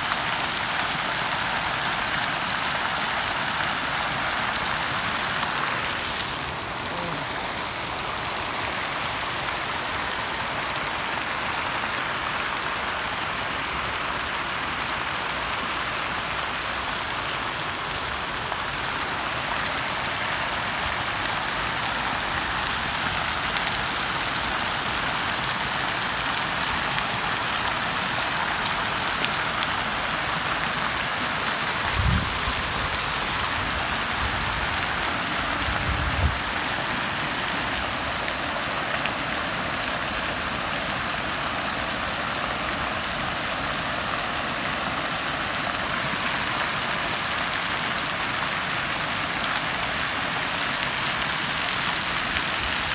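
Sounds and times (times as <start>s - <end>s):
fountain water splashing: 0.0s - 52.9s.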